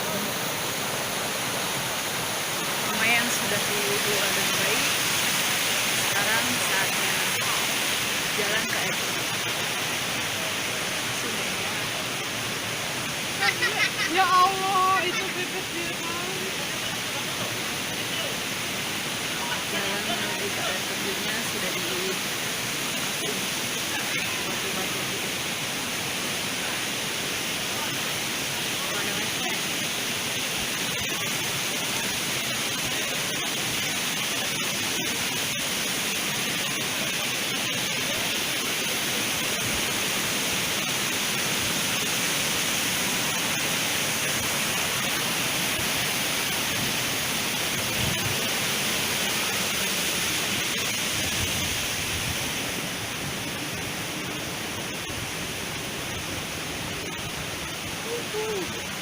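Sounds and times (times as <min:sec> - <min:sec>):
flowing water: 0:00.0 - 0:59.0.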